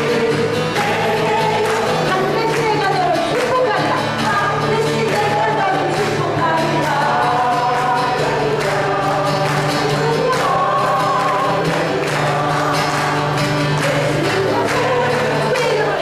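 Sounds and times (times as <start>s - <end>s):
group singing praise song: 0.0s - 16.0s
strummed acoustic guitar: 0.0s - 16.0s.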